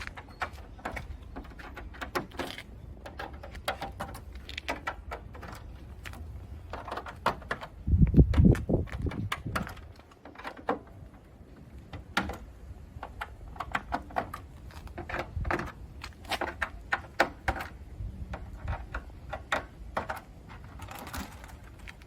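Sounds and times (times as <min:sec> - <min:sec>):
plastic panel clicks and knocks: 0:00.0 - 0:11.2, 0:11.9 - 0:21.7.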